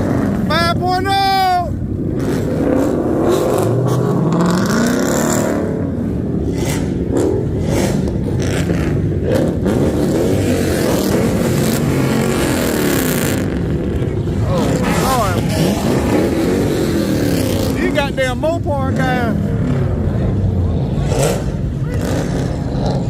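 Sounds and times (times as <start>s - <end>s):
car engine revving hard: 2.0s - 19.9s, 20.5s - 23.0s.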